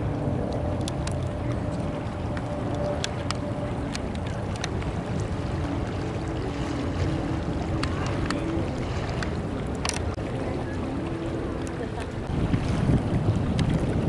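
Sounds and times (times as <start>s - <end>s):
jet engine rumble: 0.0s - 14.0s.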